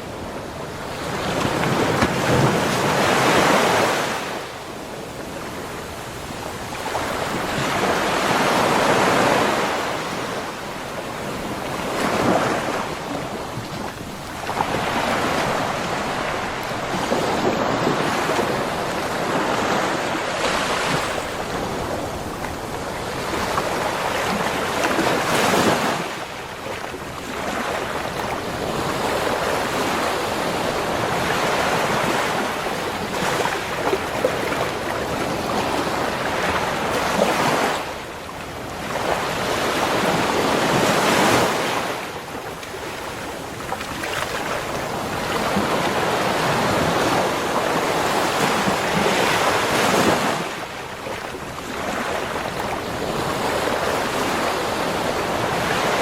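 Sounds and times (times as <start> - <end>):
ocean surf breaking on shore: 0.0 - 56.0.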